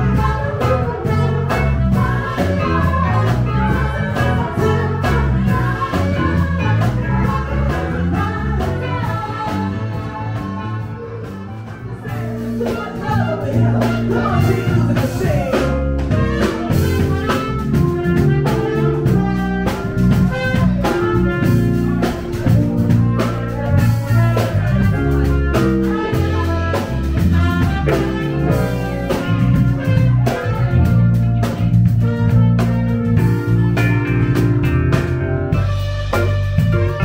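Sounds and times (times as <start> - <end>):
band playing music: 0.0 - 37.0.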